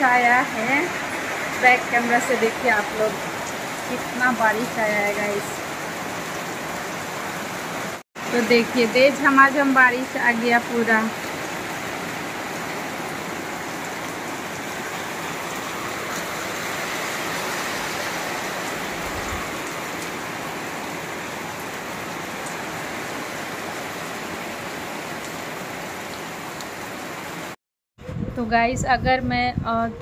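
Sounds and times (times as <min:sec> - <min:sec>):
heavy rain falling: 0:00.0 - 0:27.6.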